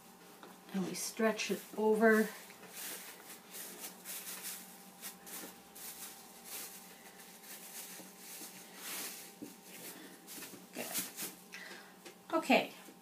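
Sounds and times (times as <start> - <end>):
faint steady hum: 0.0 - 13.0
plastic sheeting crinkling: 0.8 - 11.4.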